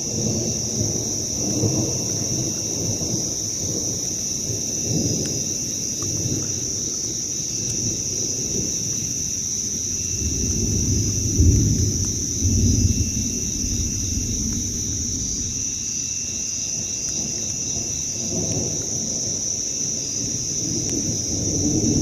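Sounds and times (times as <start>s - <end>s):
chorus of night insects: 0.0s - 22.0s
pulsing insect call: 0.0s - 22.0s.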